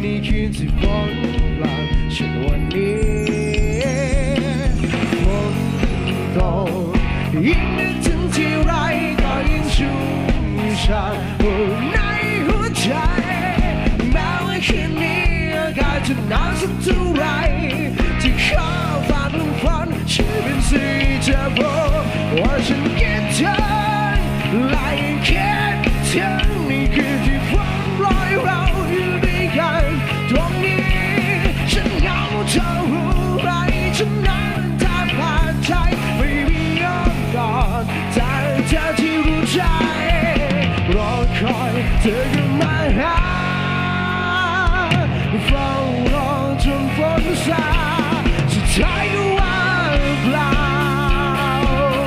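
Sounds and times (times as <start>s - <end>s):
bass line: 0.0s - 52.0s
drums and cymbals: 0.0s - 52.0s
lead vocal singing: 0.0s - 52.0s
rock band playing: 0.0s - 52.0s.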